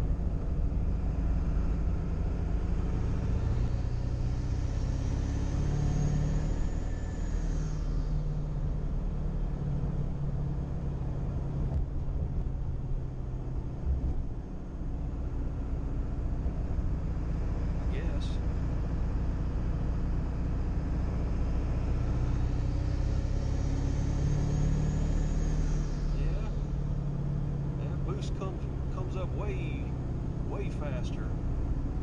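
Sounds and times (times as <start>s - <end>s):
diesel engine accelerating: 0.0s - 32.0s.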